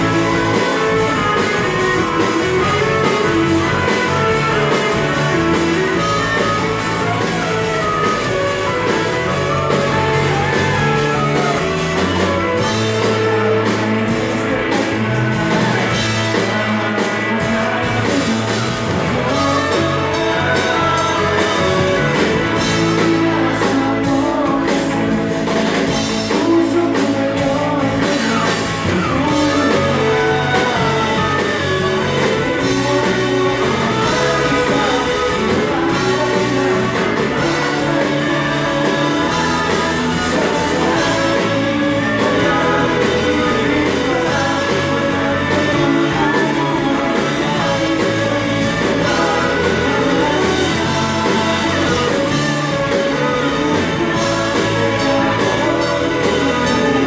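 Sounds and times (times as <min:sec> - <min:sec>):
bass guitar: 0:00.0 - 0:57.0
drum kit: 0:00.0 - 0:57.0
electric guitars: 0:00.0 - 0:57.0
person singing: 0:00.0 - 0:57.0.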